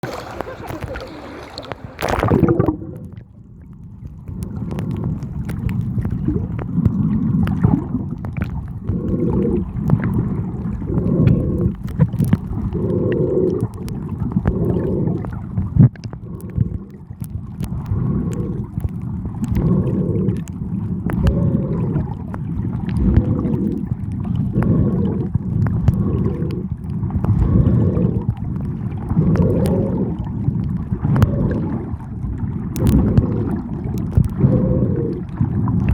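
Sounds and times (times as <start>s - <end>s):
muffled water sloshing: 0.0s - 35.9s.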